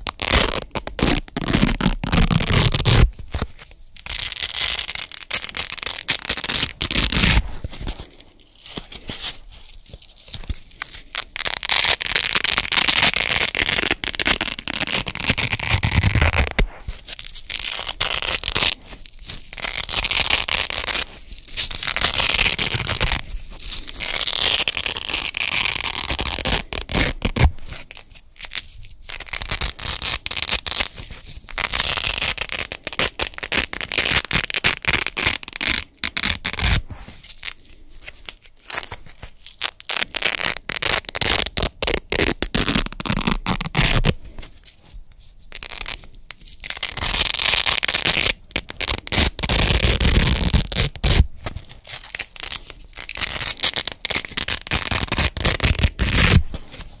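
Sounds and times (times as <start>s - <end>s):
velcro tearing: 0.0s - 57.0s.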